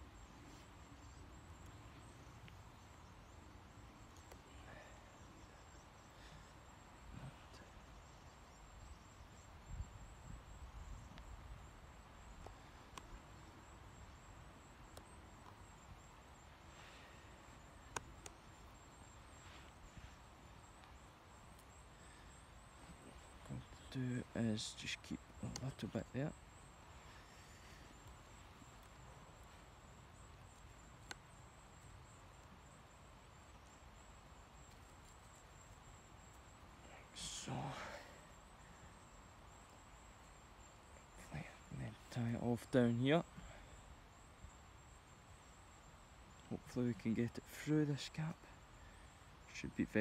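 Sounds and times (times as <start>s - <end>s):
faint hiss with high whine: 0.0s - 50.0s.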